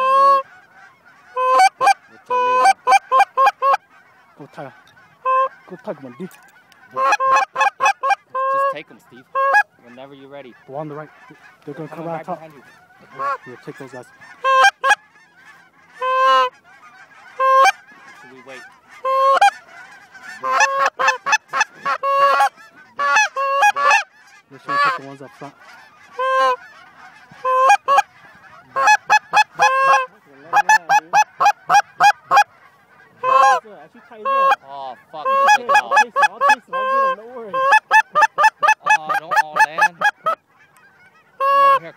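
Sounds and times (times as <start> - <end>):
goose honks and clucks: 0.0 - 41.9.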